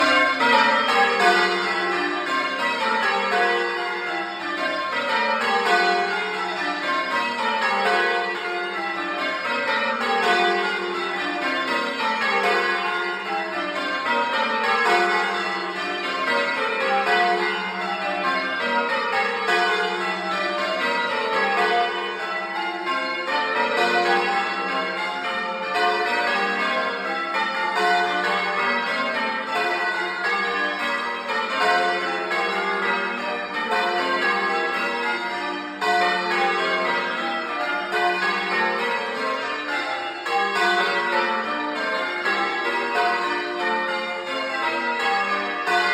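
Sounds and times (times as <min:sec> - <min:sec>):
church bells change ringing: 0:00.0 - 0:45.9.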